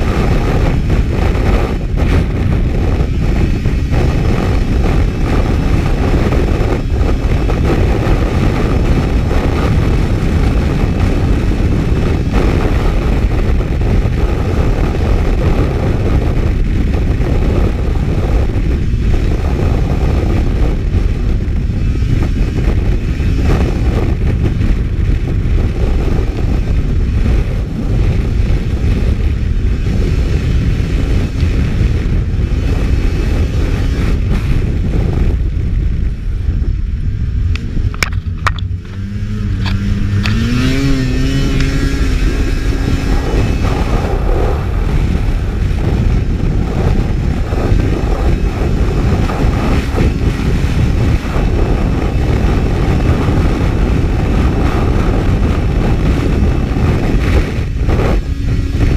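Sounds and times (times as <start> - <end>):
snowmobile engine and track noise: 0.0 - 58.9
wind on microphone: 0.0 - 58.9.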